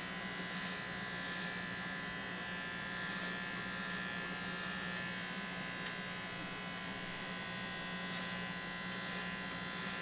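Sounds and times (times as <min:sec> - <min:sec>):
electric hair clippers buzzing: 0:00.0 - 0:10.0.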